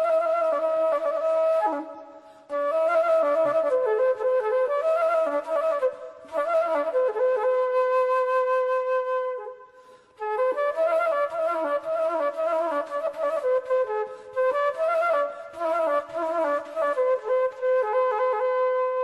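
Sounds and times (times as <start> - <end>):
flute melody: 0.0 - 19.0.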